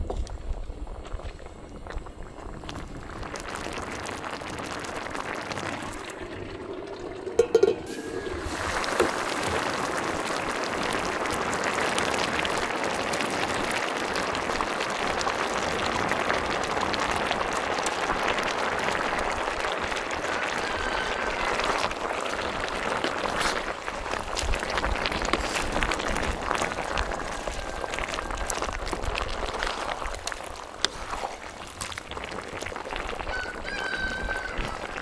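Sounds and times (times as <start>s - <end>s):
stew bubbling and sizzling: 0.0s - 35.0s.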